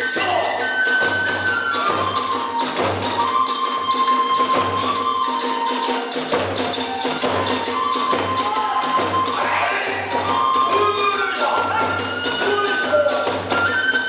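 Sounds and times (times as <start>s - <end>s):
bamboo flute long notes: 0.0s - 14.0s.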